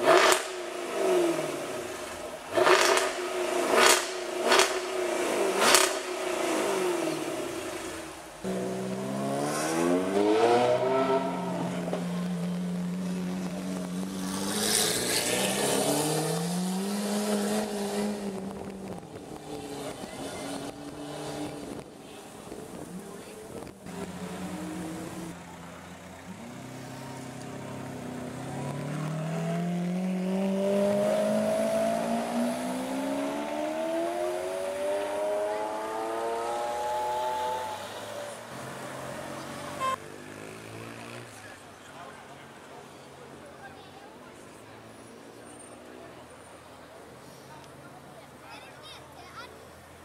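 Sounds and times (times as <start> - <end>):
sports car engine pulling away: 0.0 - 41.6.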